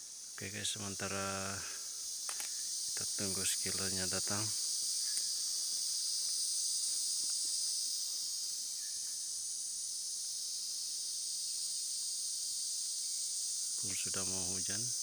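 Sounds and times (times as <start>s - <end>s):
forest insects chorus: 0.0s - 15.0s.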